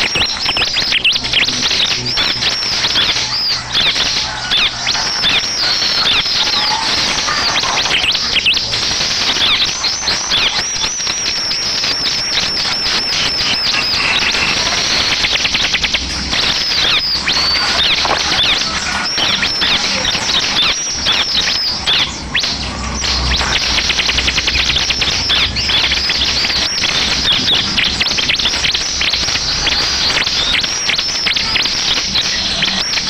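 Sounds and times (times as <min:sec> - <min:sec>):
bird chirping song: 0:00.0 - 0:33.0.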